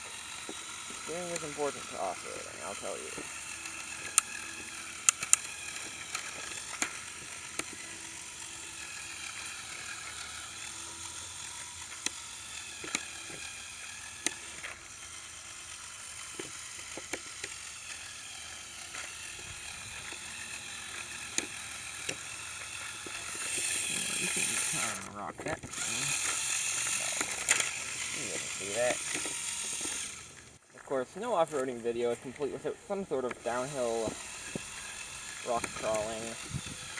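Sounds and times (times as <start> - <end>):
toy truck motors whining: 0.0 - 36.9.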